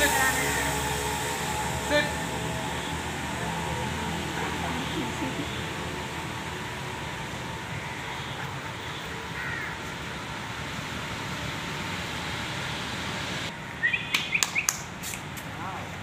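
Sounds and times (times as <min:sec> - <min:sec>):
distant traffic: 0:00.0 - 0:16.0.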